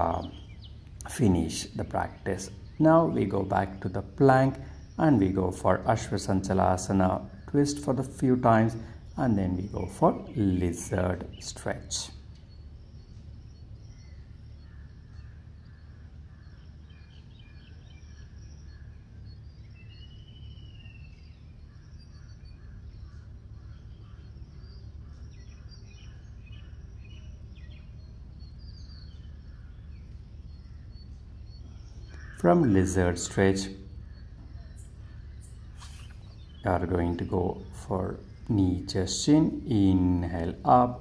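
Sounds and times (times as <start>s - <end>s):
bird calls and chirps: 0.0s - 41.0s.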